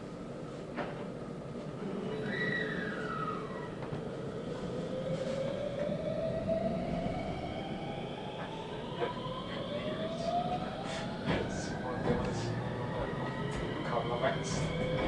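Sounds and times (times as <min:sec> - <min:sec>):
wheel-on-rail rumble: 0:00.6 - 0:15.0.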